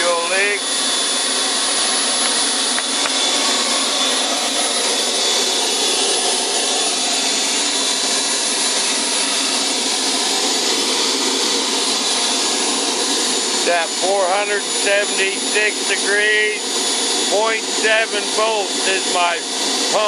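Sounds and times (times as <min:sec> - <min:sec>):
model jet engine idling: 0:00.0 - 0:20.0.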